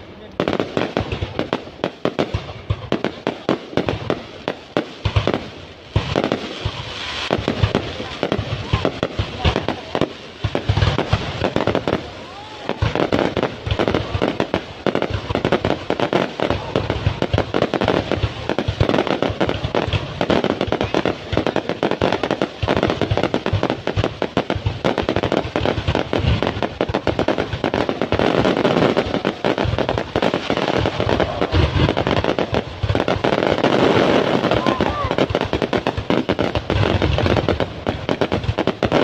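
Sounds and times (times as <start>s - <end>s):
fireworks popping and crackling: 0.0s - 39.0s.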